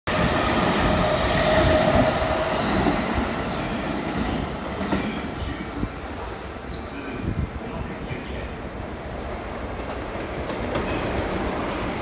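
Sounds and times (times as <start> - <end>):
electric train running past: 0.1 - 12.0.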